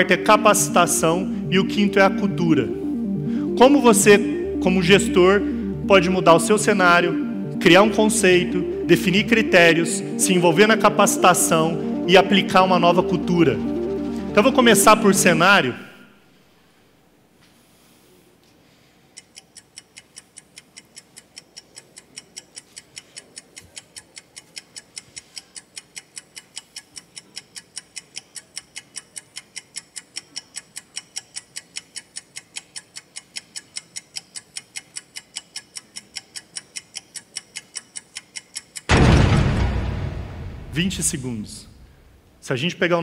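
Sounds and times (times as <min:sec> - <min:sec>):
clock ticking: 0:00.0 - 0:15.7, 0:19.2 - 0:39.8.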